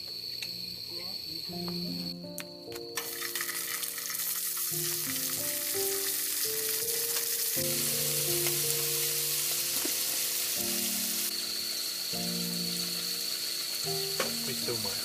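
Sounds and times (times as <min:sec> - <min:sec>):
soft background music: 0:00.5 - 0:15.0
food sizzling in a pan: 0:03.0 - 0:15.0.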